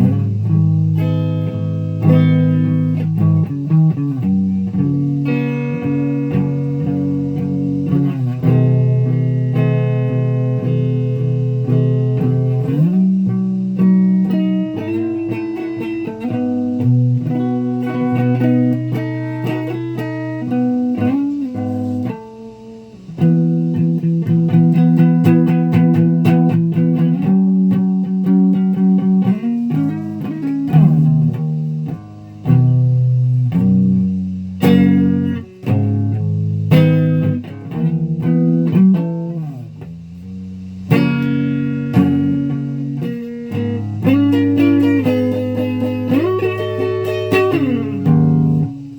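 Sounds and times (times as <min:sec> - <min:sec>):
electric guitar playing: 0:00.0 - 0:48.9.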